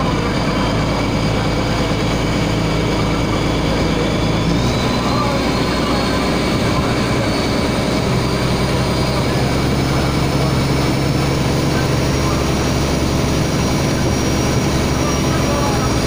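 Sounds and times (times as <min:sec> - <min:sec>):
boat engine humming: 0:00.0 - 0:16.0
water rushing: 0:00.0 - 0:16.0.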